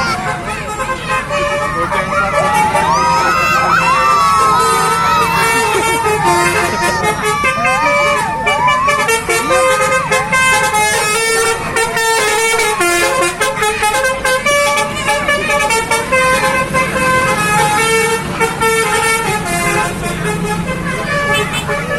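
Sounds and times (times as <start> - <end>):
bus engine rumbling: 0.0 - 21.9
multi-tone bus horn melody: 0.0 - 21.9.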